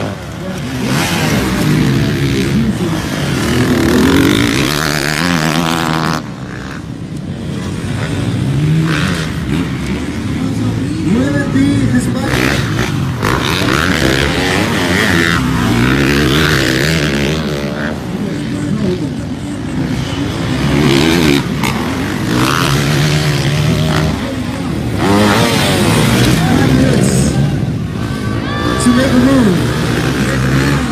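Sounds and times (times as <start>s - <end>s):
dirt bike engines revving: 0.0s - 30.9s.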